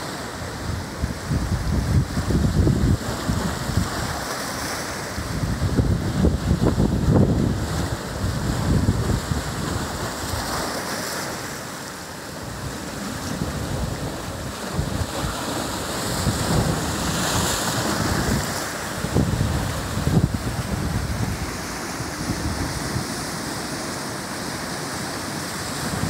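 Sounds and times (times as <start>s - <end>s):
ocean surf breaking on rocks: 0.0s - 26.0s
water washing through tide pools: 0.0s - 26.0s
wind buffeting microphone: 0.5s - 4.2s, 5.2s - 10.6s, 12.5s - 23.9s, 25.5s - 26.0s.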